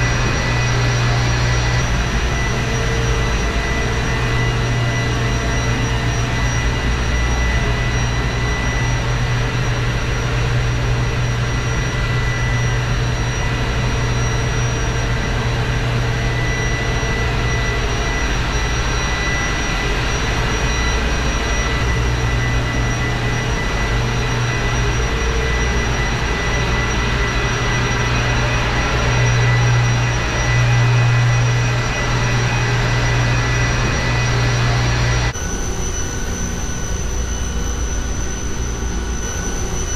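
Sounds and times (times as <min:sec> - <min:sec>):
engine room low hum: 0:00.0 - 0:39.9
high whining tones: 0:00.0 - 0:39.9.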